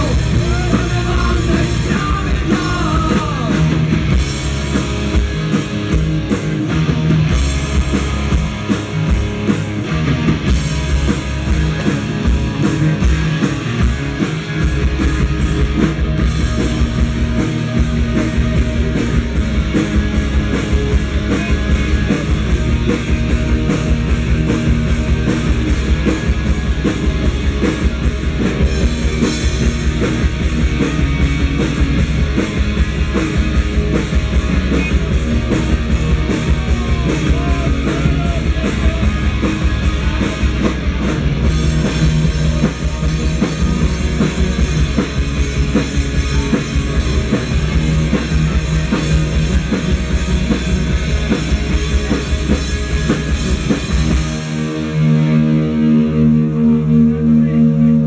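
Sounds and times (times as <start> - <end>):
drum kit beat: 0.0 - 55.8
bass guitar: 0.0 - 58.0
electric guitars: 0.0 - 58.0.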